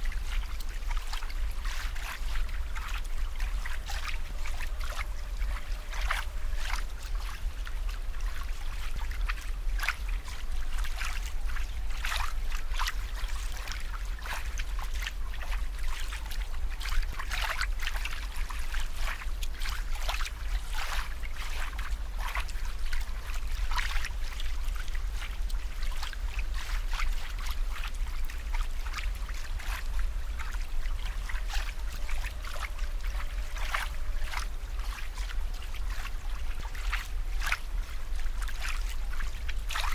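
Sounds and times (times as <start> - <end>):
steady low hum: 0.0 - 39.9
water trickling and gurgling: 0.0 - 39.9.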